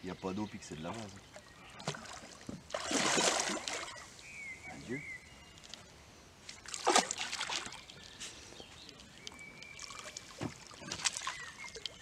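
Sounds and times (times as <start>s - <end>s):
water splashing and sloshing: 0.7s - 4.3s, 5.5s - 12.0s.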